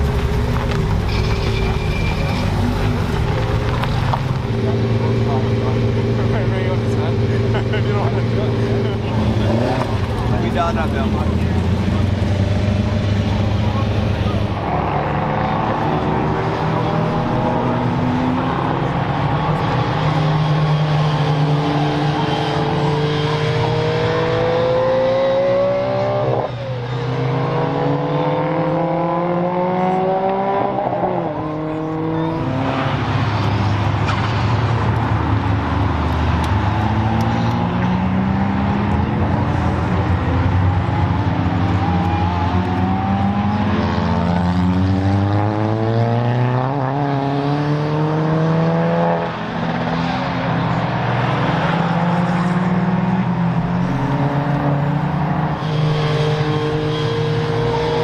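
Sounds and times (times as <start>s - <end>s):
car engines accelerating hard: 0.0s - 58.0s.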